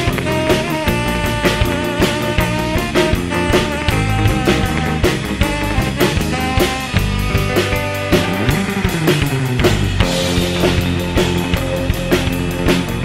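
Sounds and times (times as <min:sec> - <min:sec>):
rock music with drums and guitar: 0:00.0 - 0:13.0.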